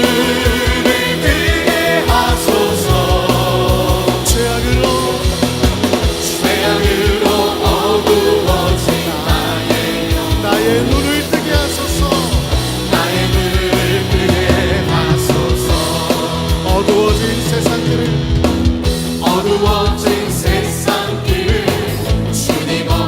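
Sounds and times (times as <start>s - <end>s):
bass: 0.0s - 23.0s
steady drum beat: 0.0s - 23.0s
sustained guitar or keyboard notes: 0.0s - 23.0s.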